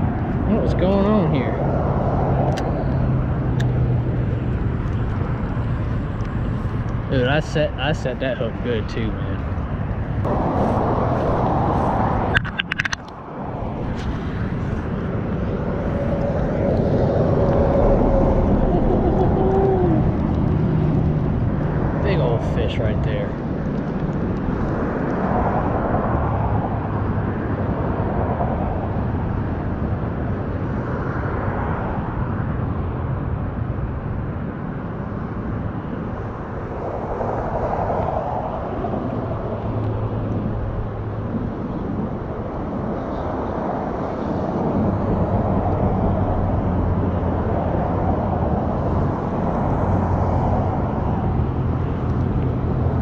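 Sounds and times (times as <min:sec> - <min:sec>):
highway traffic rumble: 0:00.0 - 0:53.0
vehicles passing: 0:00.0 - 0:53.0.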